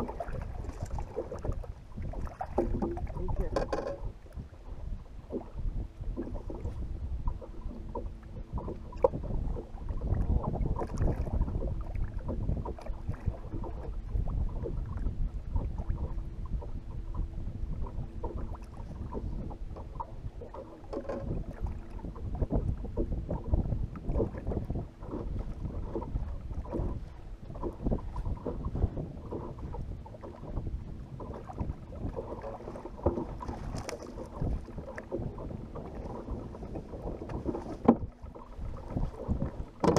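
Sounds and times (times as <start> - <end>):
waves lapping against boat hull: 0.0 - 39.9
wind buffeting microphone: 0.0 - 39.9.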